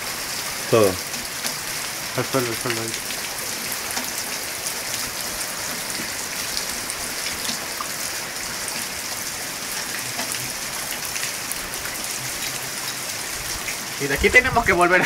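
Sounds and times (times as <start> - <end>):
heavy rain on patio: 0.0 - 15.0.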